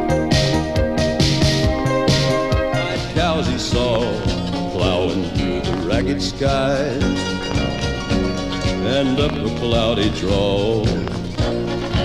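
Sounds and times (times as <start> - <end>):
instrumental music with bass beat: 0.0 - 12.0.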